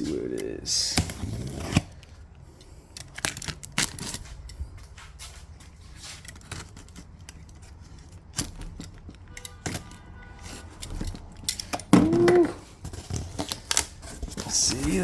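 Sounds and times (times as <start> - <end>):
package clicks and scrapes: 0.0 - 15.0.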